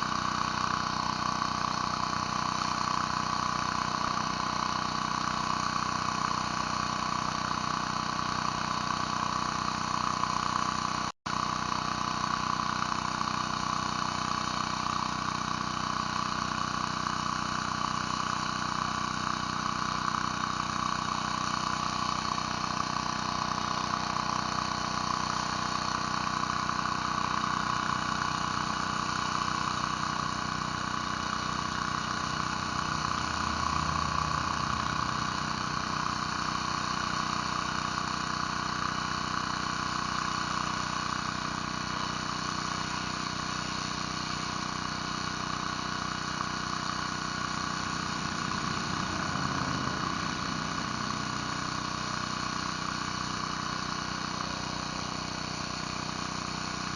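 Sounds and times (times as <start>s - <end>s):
pressure washer engine running: 0.0s - 56.9s.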